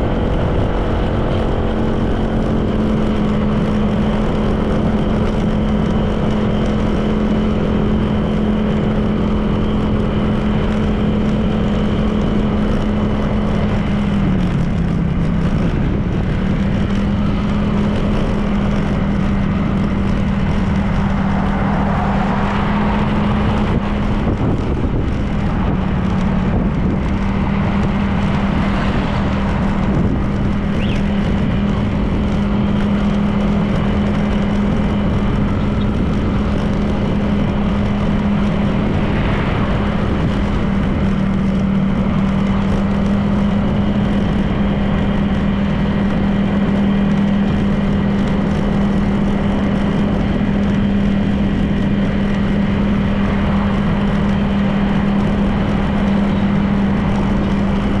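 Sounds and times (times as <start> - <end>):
scooter engine cruising: 0.0 - 58.0
wind and road noise: 0.0 - 58.0.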